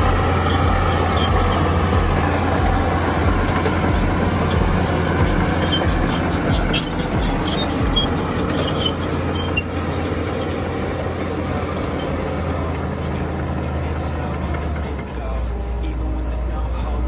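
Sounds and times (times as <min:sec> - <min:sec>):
bulldozer diesel engine droning: 0:00.0 - 0:17.0
steel tracks squeaking and clinking: 0:00.0 - 0:17.0.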